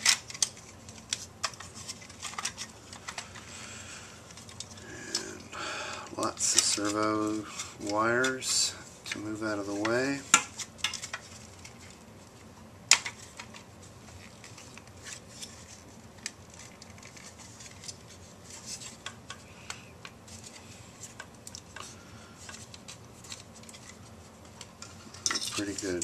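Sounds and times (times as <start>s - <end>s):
plastic parts clicking and rustling: 0.0s - 3.5s, 4.3s - 8.5s, 9.1s - 12.0s, 12.9s - 26.0s.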